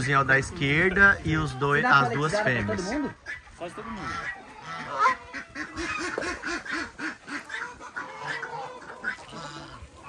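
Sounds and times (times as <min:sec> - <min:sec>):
ducks quacking: 0:00.0 - 0:10.0
waterfowl calls: 0:01.9 - 0:10.0.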